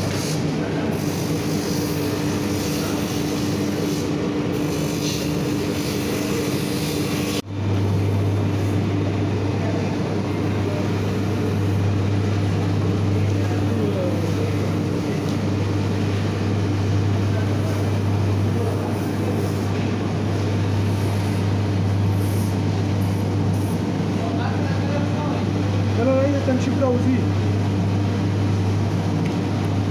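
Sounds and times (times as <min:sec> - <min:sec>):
factory machinery humming: 0:00.0 - 0:29.9.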